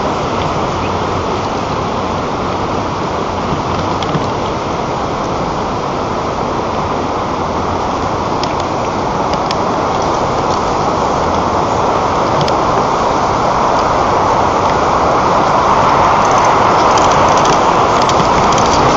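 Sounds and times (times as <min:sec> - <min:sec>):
wind roaring over microphone: 0:00.0 - 0:18.9.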